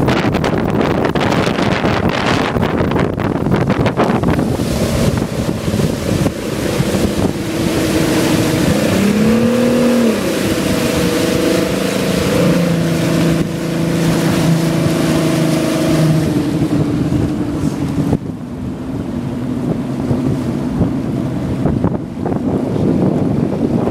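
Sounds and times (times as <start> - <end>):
outboard motor running: 0.0 - 23.9
rushing water: 0.0 - 23.9
wind on microphone: 0.0 - 23.9.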